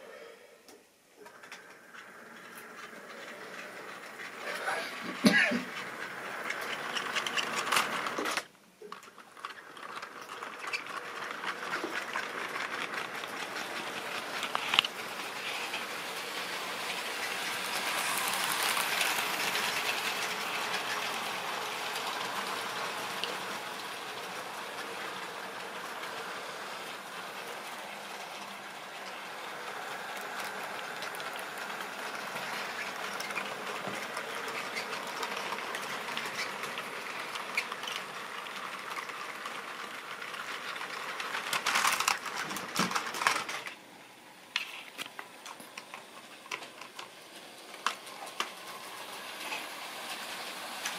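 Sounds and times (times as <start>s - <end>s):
train motor hum: 0.7s - 50.9s
model train wheels clattering: 1.2s - 43.8s, 44.5s - 50.9s.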